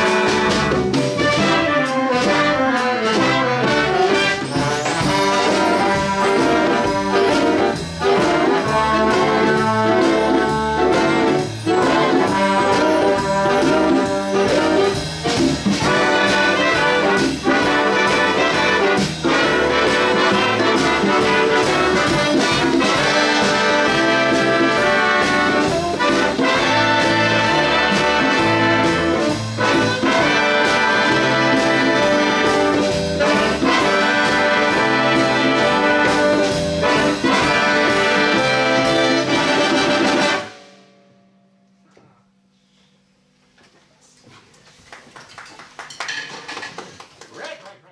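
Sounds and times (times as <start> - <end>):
steady drum beat: 0.0 - 40.5
brass section playing: 0.0 - 41.2.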